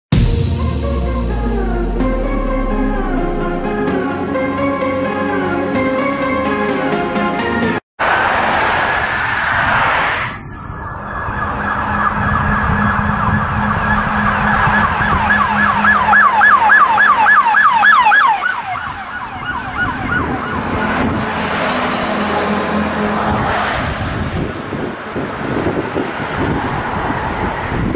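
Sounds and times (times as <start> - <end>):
police siren wailing: 1.0 - 6.4, 9.3 - 27.9.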